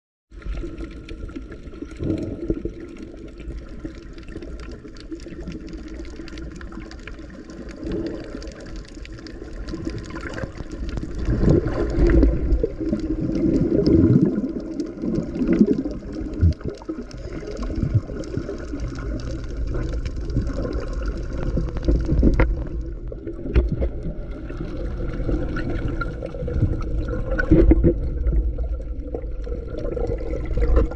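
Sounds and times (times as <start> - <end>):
bubbly gurgling: 0.3 - 30.9
muffled underwater rumble: 0.3 - 30.9.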